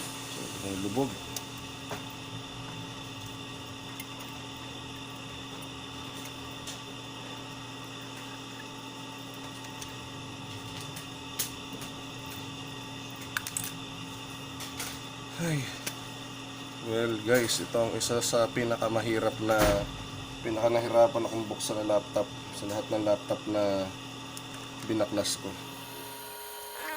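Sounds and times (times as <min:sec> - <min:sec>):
electrical mains hum: 0:00.0 - 0:26.9.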